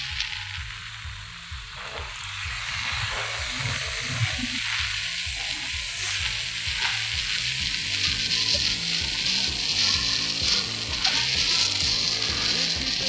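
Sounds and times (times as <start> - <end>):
music with low beat: 0.0 - 13.0.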